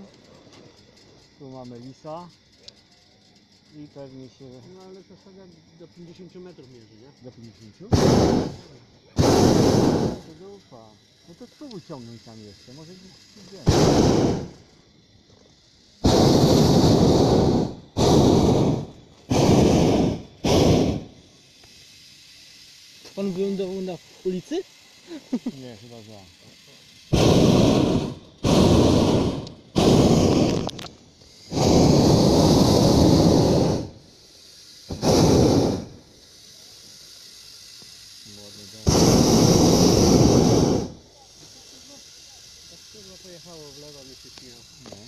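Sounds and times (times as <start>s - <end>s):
propane burner blasts: 0.0s - 45.0s.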